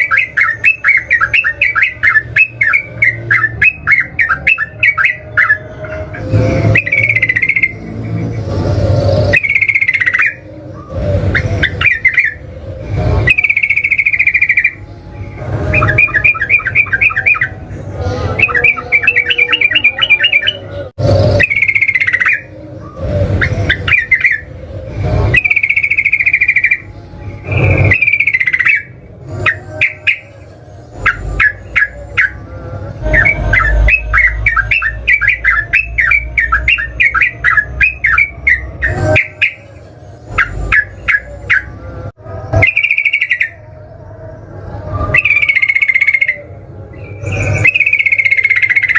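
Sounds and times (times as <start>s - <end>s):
bulbul singing bubbly phrases: 0.0s - 48.9s.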